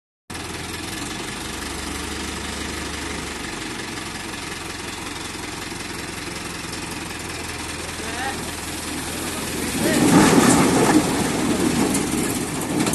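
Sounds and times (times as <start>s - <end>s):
tractor diesel engine running: 0.3s - 12.9s.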